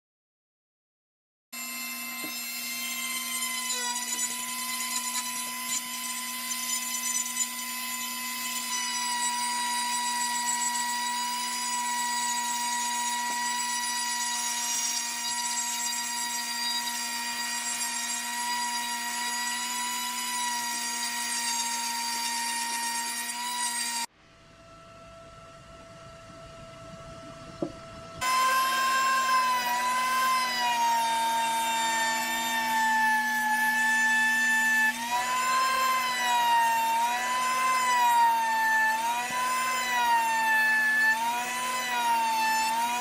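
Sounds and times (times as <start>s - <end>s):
rotary tool high whine: 1.6s - 43.0s.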